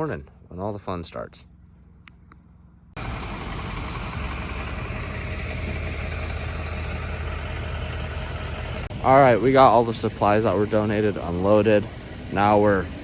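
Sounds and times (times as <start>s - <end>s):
vehicle engine idling: 1.5s - 13.0s.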